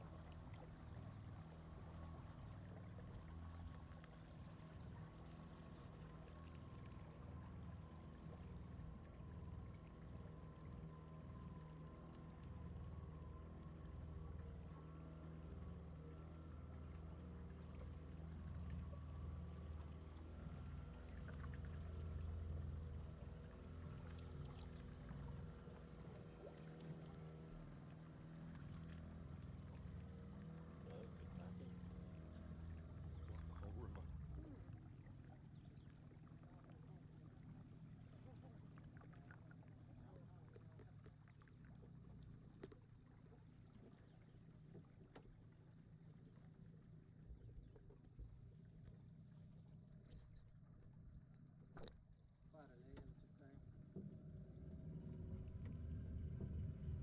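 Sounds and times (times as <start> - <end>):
faint boat motor running: 0.0 - 57.0.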